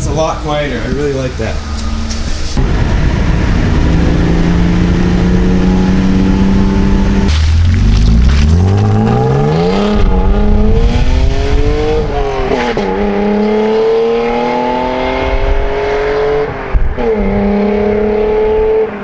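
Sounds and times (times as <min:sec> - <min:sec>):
car engine revving through gears: 0:01.4 - 0:19.0.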